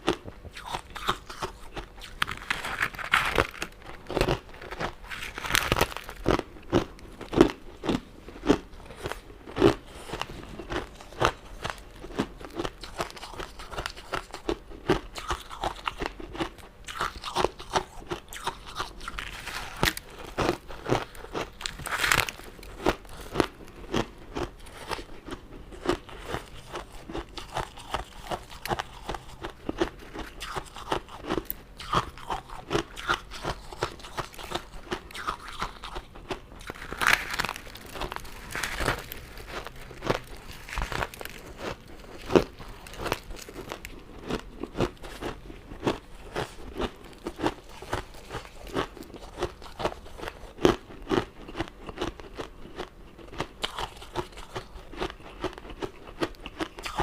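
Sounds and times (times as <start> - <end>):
candy crunching close up: 0.0 - 57.0.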